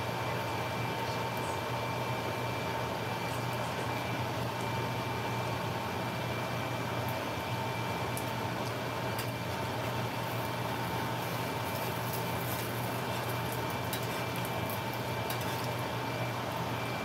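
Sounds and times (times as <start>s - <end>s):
constant hum: 0.0s - 17.0s
eggs sizzling in frying pan: 2.6s - 17.0s.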